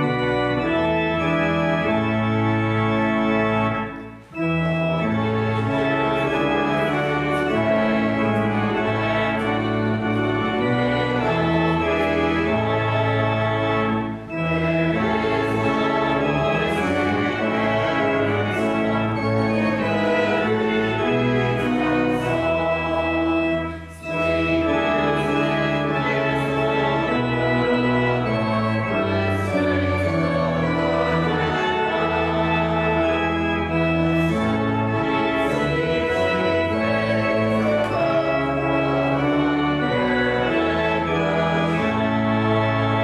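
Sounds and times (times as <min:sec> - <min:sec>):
pipe organ playing sustained chords: 0:00.0 - 0:43.0.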